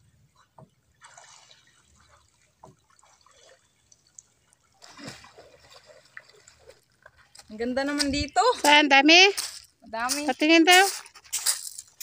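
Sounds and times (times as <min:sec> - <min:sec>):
water lapping on pebble shore: 0:01.0 - 0:12.0.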